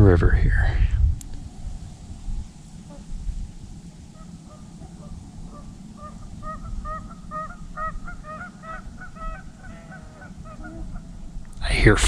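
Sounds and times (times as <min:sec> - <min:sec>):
geese honking: 0:01.3 - 0:12.0.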